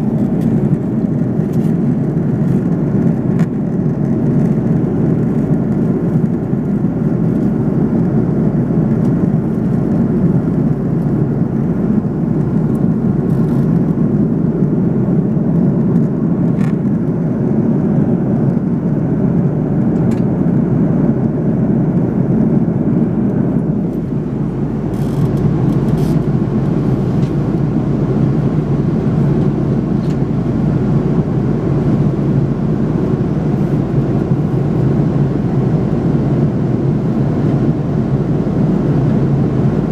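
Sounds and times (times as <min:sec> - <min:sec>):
jet airliner cabin noise: 0:00.0 - 0:39.9.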